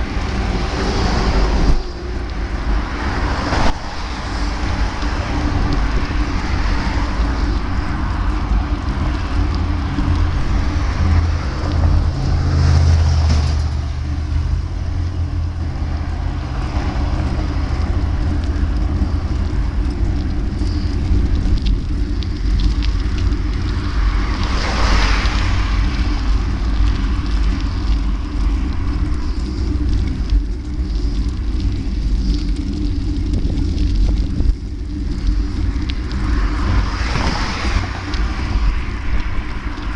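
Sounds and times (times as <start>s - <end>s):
road riding rumble: 0.0s - 39.9s
vehicle passing rush: 0.0s - 39.9s
wind on microphone: 0.0s - 39.9s.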